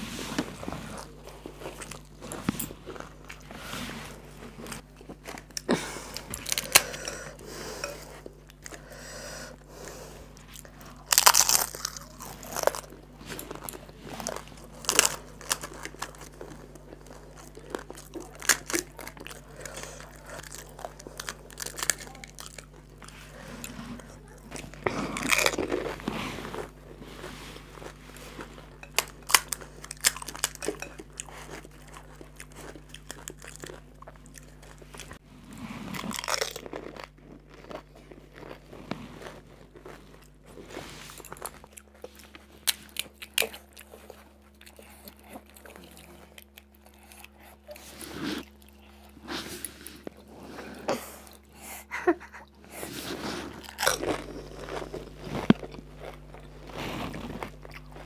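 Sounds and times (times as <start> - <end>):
crisp shells crunching being chewed: 0.4 - 9.0, 9.9 - 35.2, 35.8 - 50.6, 52.5 - 58.0.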